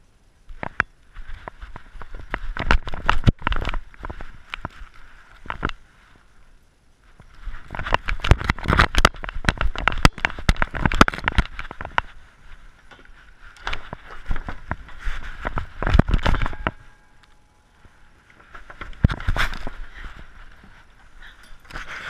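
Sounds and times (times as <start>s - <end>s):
camera clattering and rubbing: 0.5s - 5.8s, 7.2s - 22.0s.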